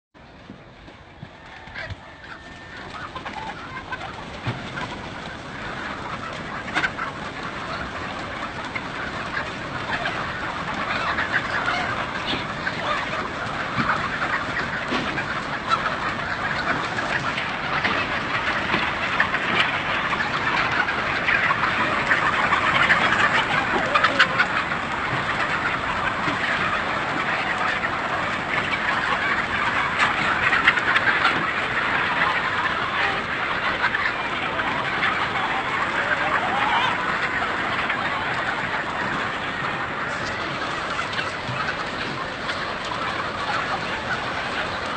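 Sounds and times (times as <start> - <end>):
flock of chickens clucking: 0.2 - 44.9.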